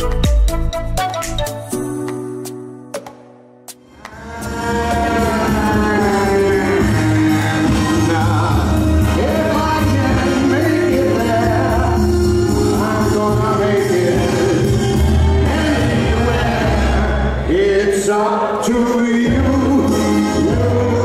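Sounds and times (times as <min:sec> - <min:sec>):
amplified music with deep bass: 0:00.0 - 0:21.0
man singing into microphone: 0:04.0 - 0:21.0.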